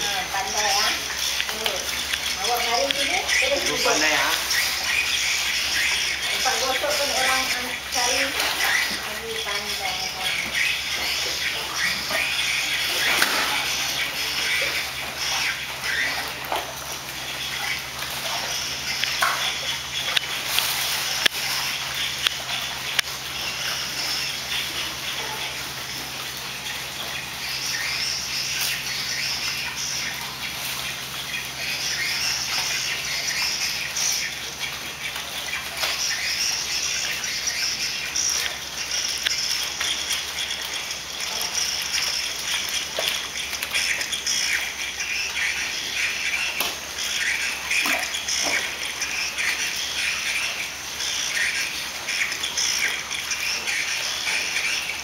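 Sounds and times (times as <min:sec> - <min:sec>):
water splashing and gushing: 0:00.0 - 0:55.0.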